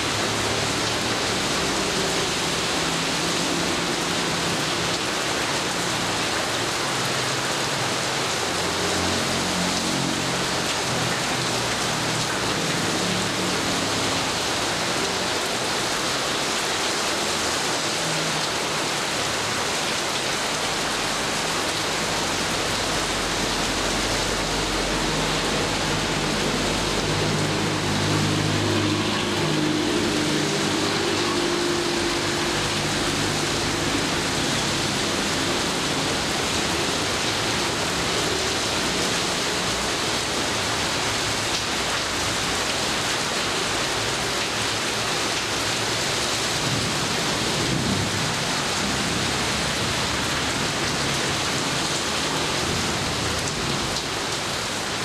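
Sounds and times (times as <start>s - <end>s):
heavy rain pattering: 0.0s - 55.0s.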